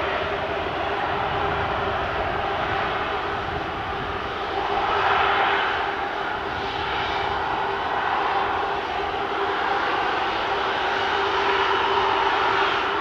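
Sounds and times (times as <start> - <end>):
constant low hum: 0.0 - 13.0
jet engines whining: 0.0 - 13.0.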